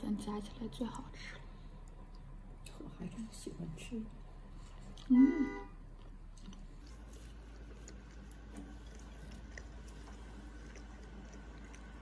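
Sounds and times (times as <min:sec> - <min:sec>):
soft chewing: 0:00.1 - 0:12.0.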